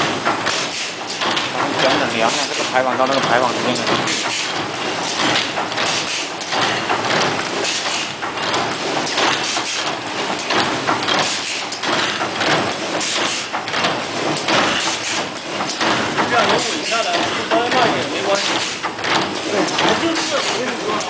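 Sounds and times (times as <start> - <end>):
machine clattering: 0.0 - 21.0.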